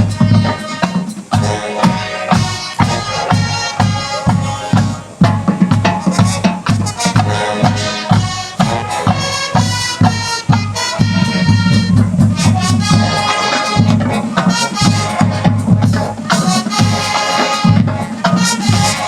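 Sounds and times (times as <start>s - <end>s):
brass chords: 0.0s - 19.0s
drum strokes: 0.0s - 19.0s
marching band playing: 0.0s - 19.0s.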